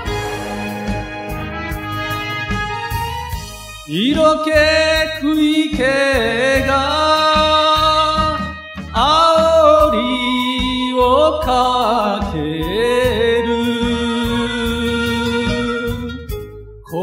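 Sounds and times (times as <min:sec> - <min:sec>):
backing track with steady beat: 0:00.0 - 0:17.0.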